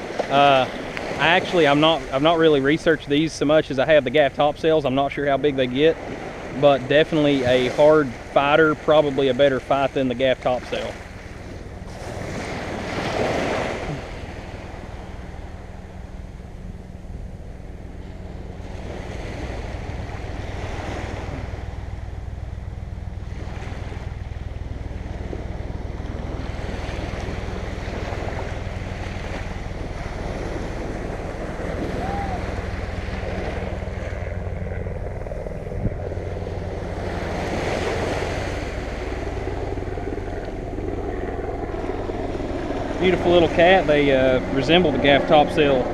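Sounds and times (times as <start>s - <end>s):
surf washing onto beach: 0.0s - 16.4s, 17.6s - 34.5s, 36.0s - 40.6s, 41.7s - 45.9s
wind rumbling on microphone: 0.0s - 45.9s.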